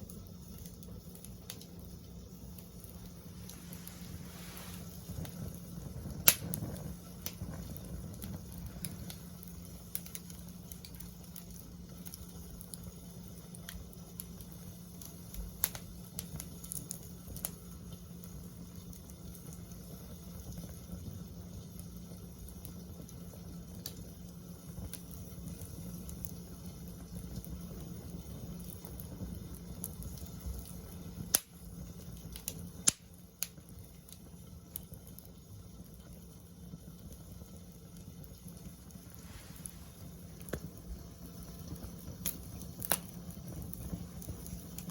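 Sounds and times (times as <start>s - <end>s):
campfire crackling: 0.0s - 44.9s
fire popping: 0.0s - 44.9s
low steady rumble: 0.0s - 44.9s.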